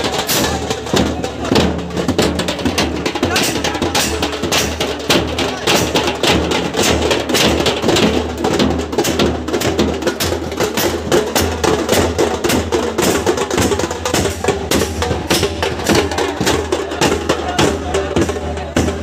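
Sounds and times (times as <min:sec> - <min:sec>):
drums beaten in fast rhythm: 0:00.0 - 0:19.0.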